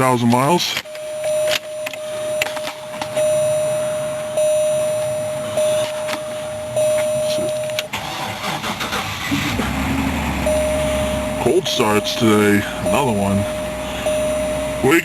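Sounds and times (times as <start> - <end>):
dashboard warning chime: 0.0 - 8.0, 10.3 - 15.0.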